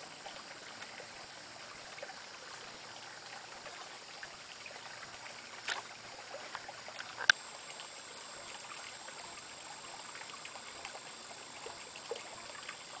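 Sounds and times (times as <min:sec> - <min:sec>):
creek water trickling: 0:00.0 - 0:13.0.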